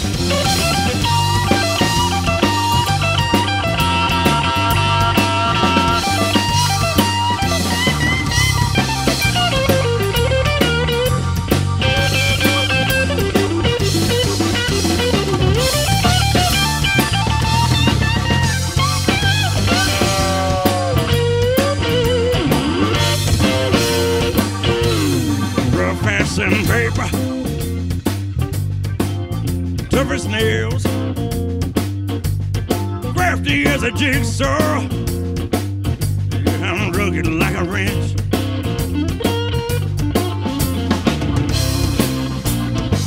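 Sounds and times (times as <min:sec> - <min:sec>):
bass and drums: 0:00.0 - 0:43.0
lead guitar with bent notes: 0:00.0 - 0:43.0.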